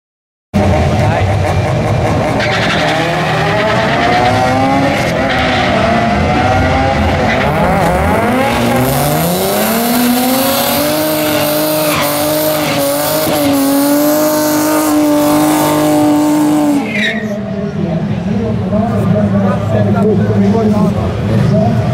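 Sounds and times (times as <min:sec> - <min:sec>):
car engine revving: 0:00.6 - 0:21.9.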